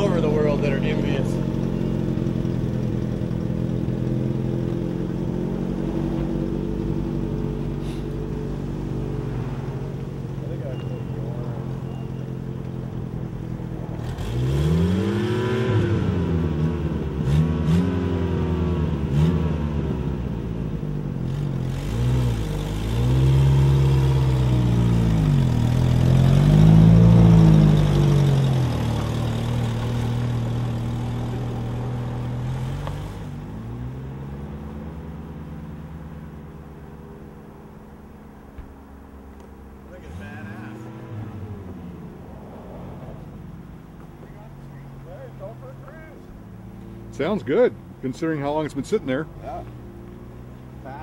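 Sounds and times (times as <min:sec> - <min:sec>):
pickup engine revving and idling: 0:00.0 - 0:51.0.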